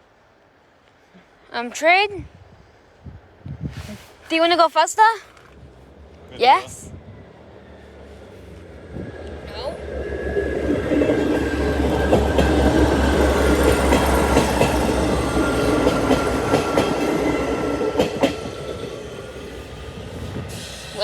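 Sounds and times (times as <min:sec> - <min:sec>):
train rumbling past: 0:02.2 - 0:21.0.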